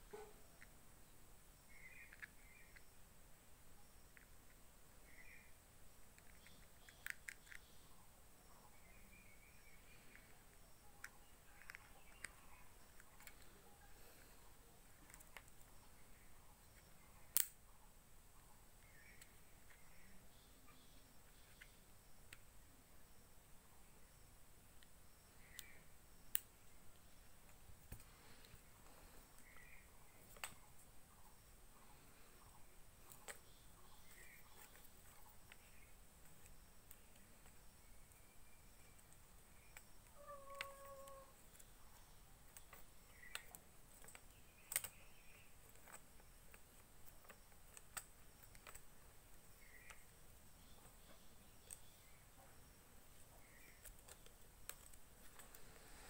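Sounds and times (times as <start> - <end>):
faint plastic clicks: 1.7 - 3.0, 4.0 - 17.8, 18.5 - 22.6, 24.7 - 56.0.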